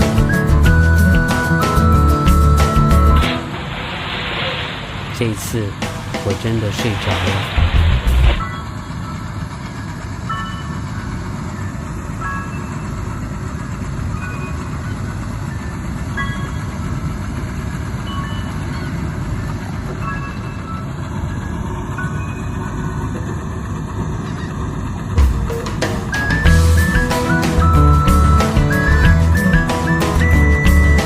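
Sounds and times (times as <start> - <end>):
tractor and baler rumbling: 0.0 - 31.0.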